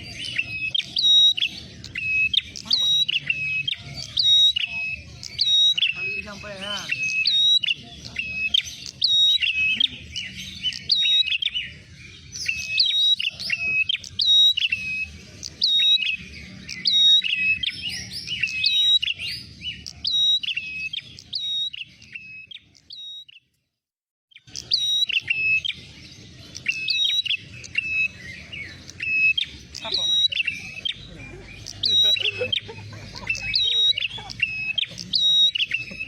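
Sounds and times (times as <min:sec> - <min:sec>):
bird sharp repeated chirps: 0:00.0 - 0:23.7, 0:24.3 - 0:36.0.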